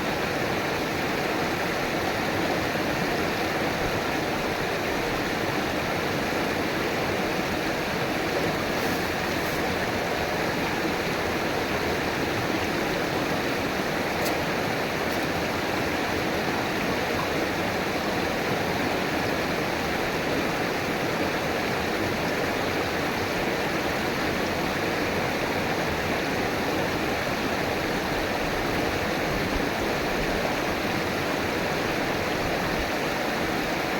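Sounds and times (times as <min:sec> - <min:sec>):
river water rushing over rocks: 0:00.0 - 0:33.9.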